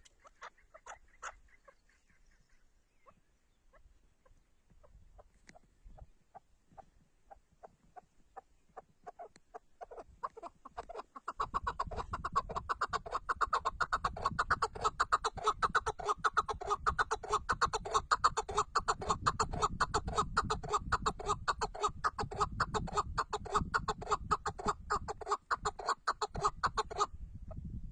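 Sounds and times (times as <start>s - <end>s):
partridge rapid clucking call: 0.0s - 27.6s.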